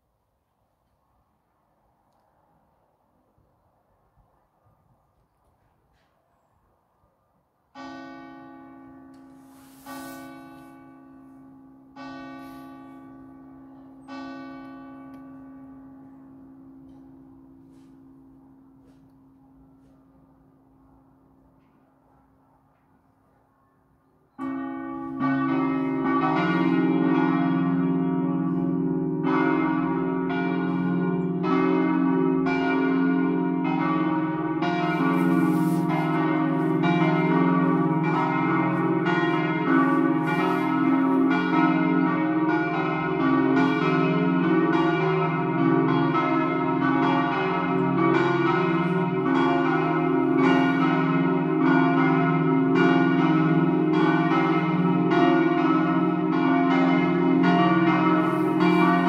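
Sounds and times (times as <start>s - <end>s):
church bells pealing: 7.8s - 20.8s, 24.4s - 59.0s.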